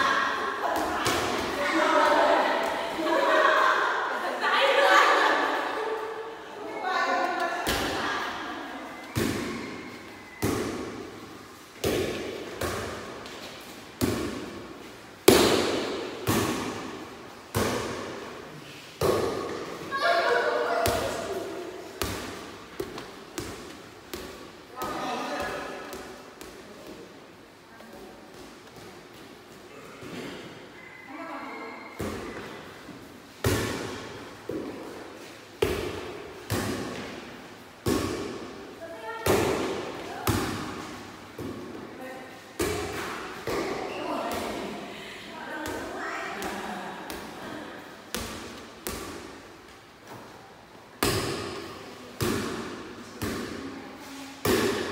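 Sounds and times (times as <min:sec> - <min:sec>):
volleyball hits echoing in hall: 0:00.0 - 0:06.2, 0:07.2 - 0:27.4, 0:31.7 - 0:54.9.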